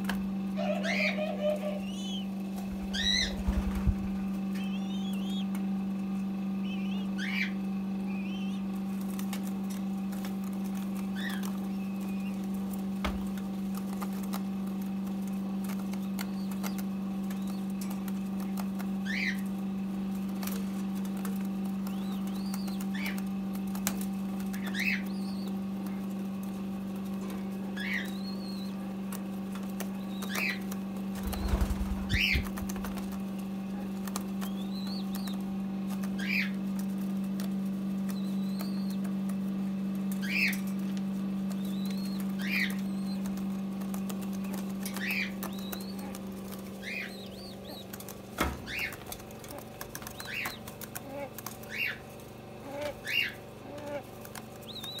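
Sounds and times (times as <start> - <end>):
wings flapping: 0.0 - 5.8, 6.6 - 55.0
steady low hum: 0.0 - 55.0
dove squeaky peeps: 0.5 - 5.7, 6.5 - 9.8, 10.5 - 13.1, 15.6 - 19.6, 20.5 - 26.1, 27.6 - 36.8, 37.9 - 39.3, 40.0 - 55.0.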